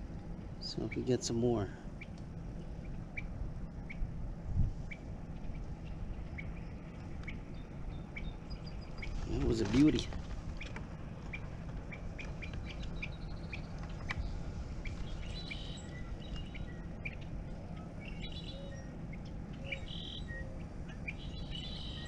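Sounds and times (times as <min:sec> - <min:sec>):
steady low rumble: 0:00.0 - 0:22.0
small birds chirping: 0:00.6 - 0:04.2, 0:04.8 - 0:22.0.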